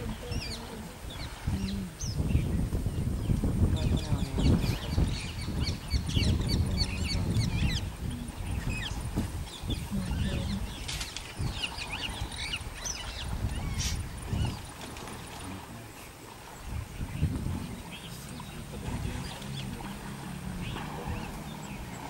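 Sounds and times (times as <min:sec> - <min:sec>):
birds chirping: 0:00.0 - 0:22.0
low rumbling noise: 0:00.0 - 0:22.0.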